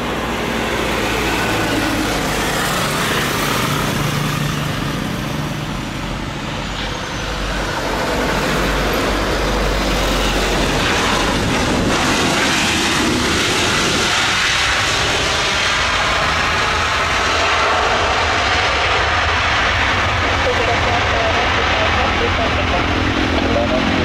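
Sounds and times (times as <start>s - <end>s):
jet engine noise: 0.0s - 24.0s.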